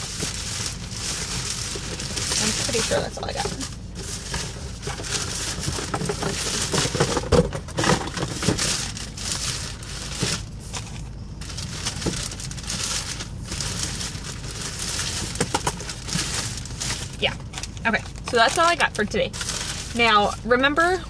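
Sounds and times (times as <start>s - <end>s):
shopping bag crinkling: 0.0s - 21.0s.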